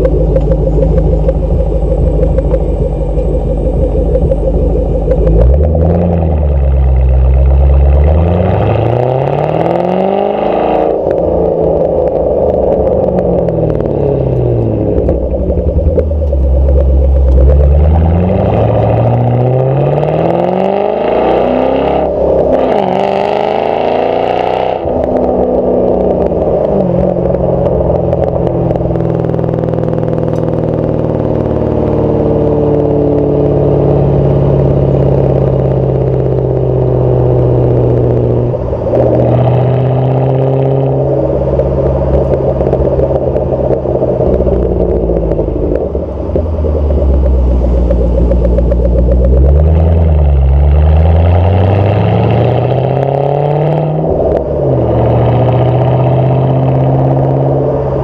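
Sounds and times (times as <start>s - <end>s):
car exhaust revving: 0.0s - 58.0s.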